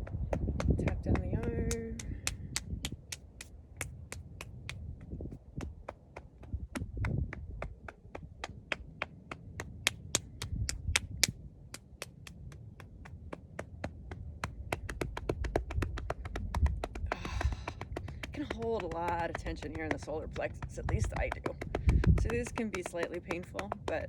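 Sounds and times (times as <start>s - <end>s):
hand tapping on body: 0.0s - 20.0s, 20.6s - 23.9s.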